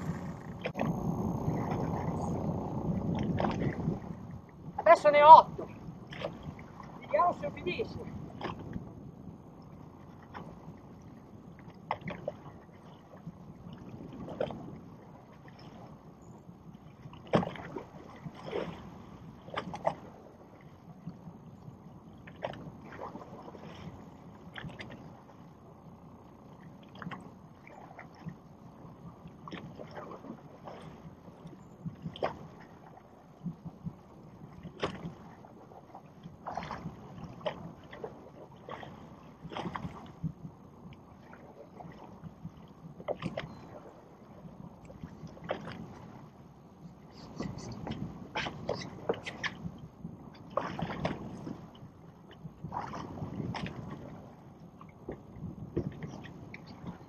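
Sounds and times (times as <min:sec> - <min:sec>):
low steady rumble: 0:00.0 - 0:57.0
water lapping against boat hull: 0:00.0 - 0:57.0.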